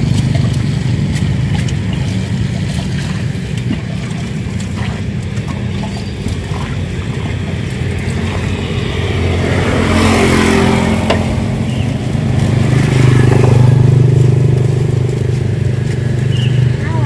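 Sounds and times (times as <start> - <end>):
passing traffic engines: 0.0 - 17.0.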